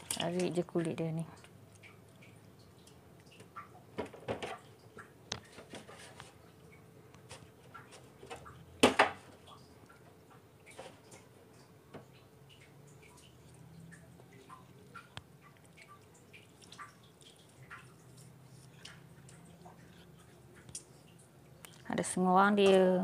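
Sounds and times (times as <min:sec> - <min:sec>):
wet handling sounds: 0:00.0 - 0:22.9.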